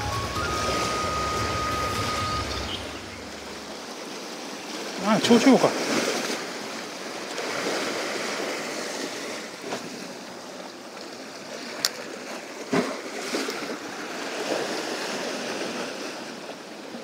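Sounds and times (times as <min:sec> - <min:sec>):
surf washing against rocks: 0:00.0 - 0:17.0.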